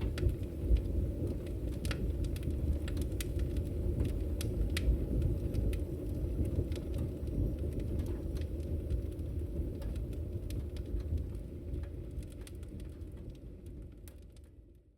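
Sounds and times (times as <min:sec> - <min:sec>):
fire burning in fireplace: 0:00.0 - 0:14.9
fire crackles and pops: 0:00.0 - 0:14.9.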